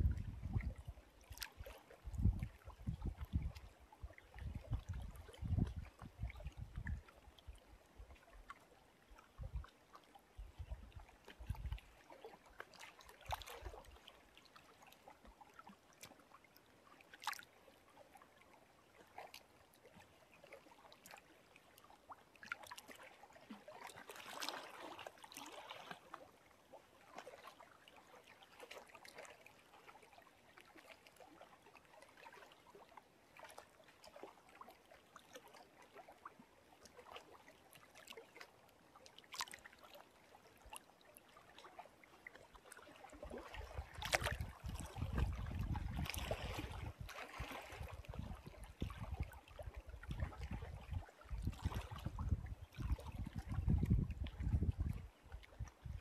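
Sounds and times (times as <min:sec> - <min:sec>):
small waves lapping: 0:00.0 - 0:56.0
soft water splashes: 0:00.0 - 0:56.0.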